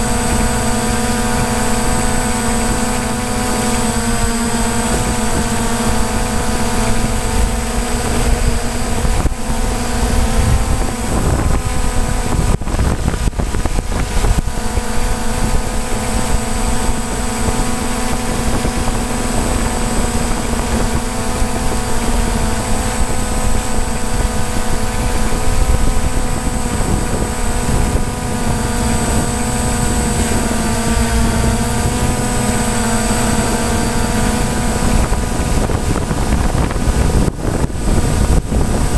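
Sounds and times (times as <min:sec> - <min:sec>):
drone propellers whining: 0:00.0 - 0:38.9
wind rushing on microphone: 0:00.0 - 0:38.9.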